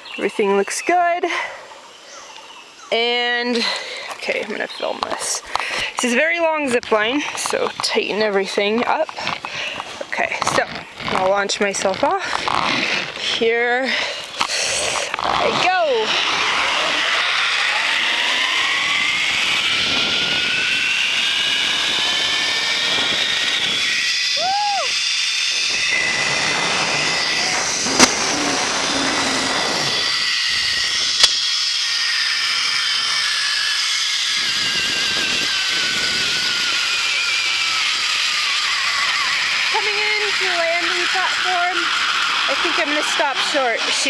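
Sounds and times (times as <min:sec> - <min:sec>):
zip-line pulleys whirring: 0:00.0 - 0:44.0.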